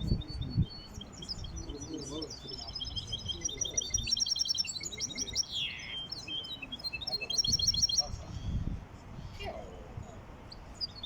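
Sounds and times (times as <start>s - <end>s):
finch singing: 0.0s - 8.6s, 10.5s - 11.0s.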